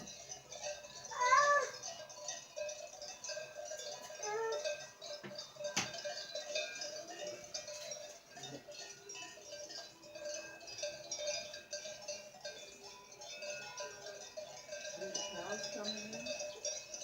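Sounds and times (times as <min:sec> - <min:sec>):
cowbells clanking: 0:00.0 - 0:17.0.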